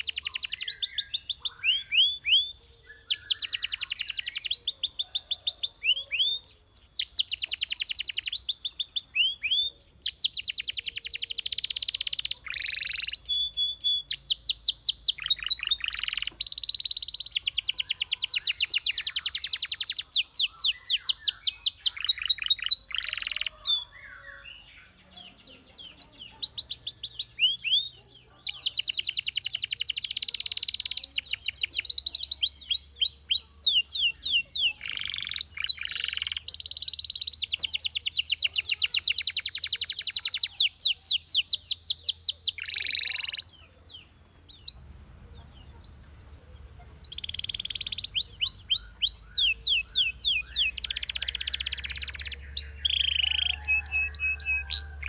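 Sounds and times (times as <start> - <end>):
canary singing rolling trills: 0.0 - 55.0.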